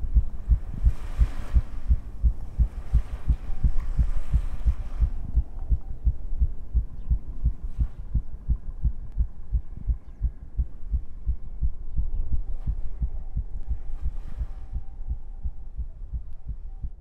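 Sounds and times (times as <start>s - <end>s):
low rapid thumping: 0.0s - 17.0s.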